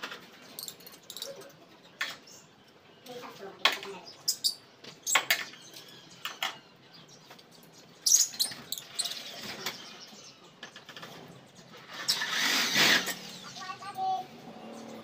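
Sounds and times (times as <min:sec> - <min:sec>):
small birds chirping: 0:00.2 - 0:15.0.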